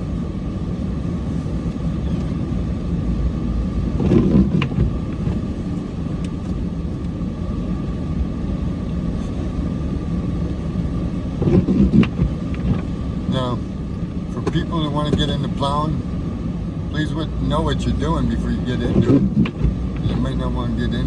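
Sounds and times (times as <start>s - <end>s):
diesel truck engine rumbling: 0.0s - 21.0s.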